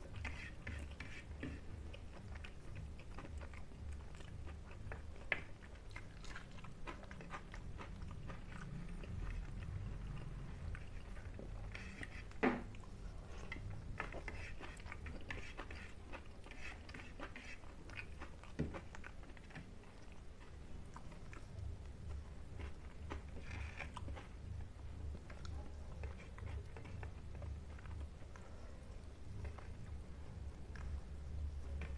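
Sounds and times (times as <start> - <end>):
person chewing: 0.0 - 29.9
low steady hum: 0.0 - 31.9.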